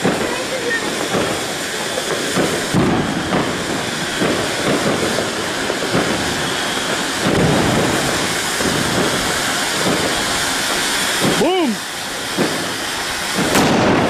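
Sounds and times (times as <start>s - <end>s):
firework fountain hissing: 0.0s - 14.0s
low rumbling surges: 0.0s - 14.0s.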